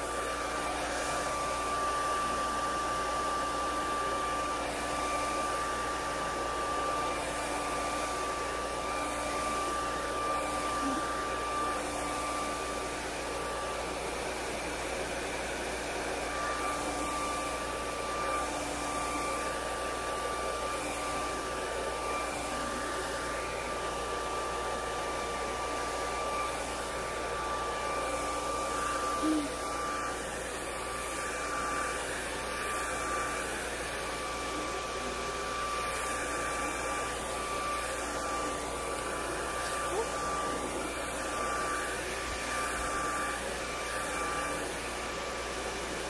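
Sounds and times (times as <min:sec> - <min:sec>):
hair dryer running: 0:00.0 - 0:46.0.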